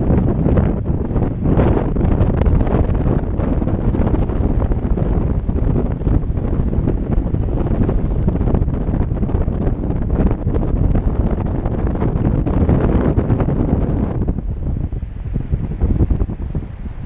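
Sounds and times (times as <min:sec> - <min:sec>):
strong wind buffeting microphone: 0:00.0 - 0:17.0
waves washing over reef: 0:00.0 - 0:17.0.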